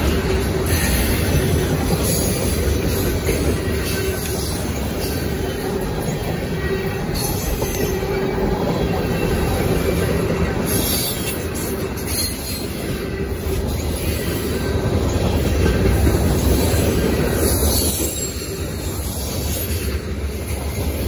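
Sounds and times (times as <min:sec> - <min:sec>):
steel wheels on rail: 0:00.0 - 0:21.0.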